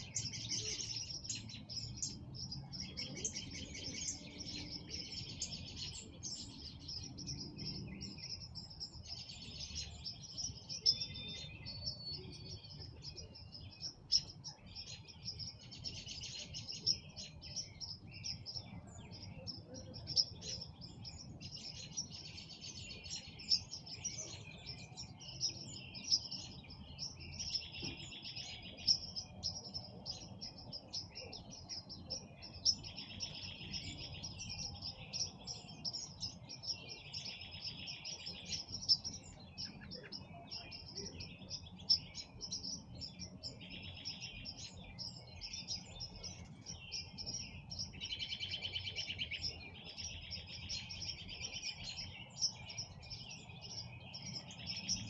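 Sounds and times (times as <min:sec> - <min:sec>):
rapid bird trill: 0:00.0 - 0:55.0
songbirds chirping: 0:00.0 - 0:55.0.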